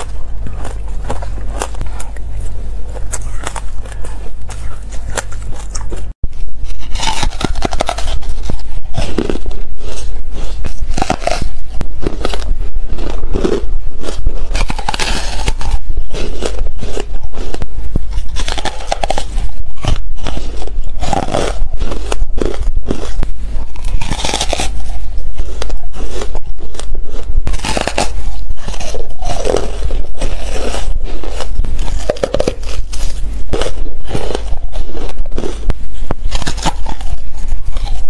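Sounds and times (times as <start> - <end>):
steady low hum: 0.0 - 38.0
crunchy bites into ice: 6.8 - 26.9, 27.5 - 38.0.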